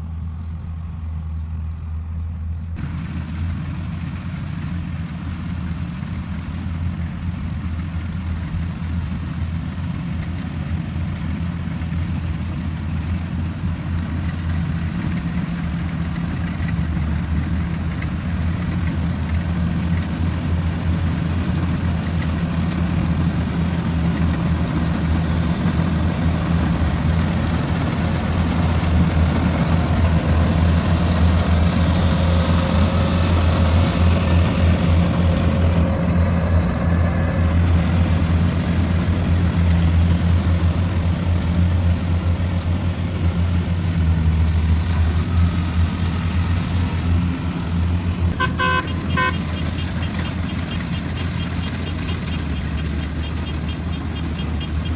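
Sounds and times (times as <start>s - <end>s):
combine harvester engine hum: 0.0s - 54.9s.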